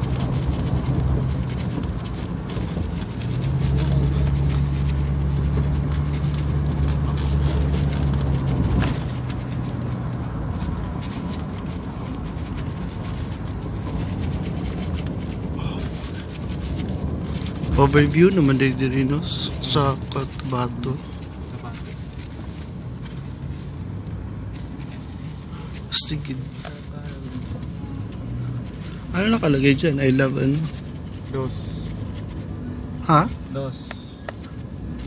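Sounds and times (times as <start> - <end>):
road and wind noise: 0.0 - 35.0
vehicle engine drone: 0.0 - 35.0.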